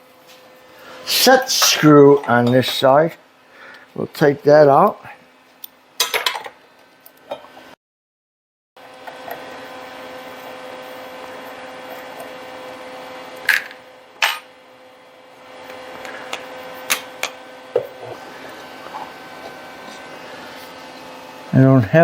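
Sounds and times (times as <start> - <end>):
electrical hum: 0.0 - 7.8, 8.8 - 22.0.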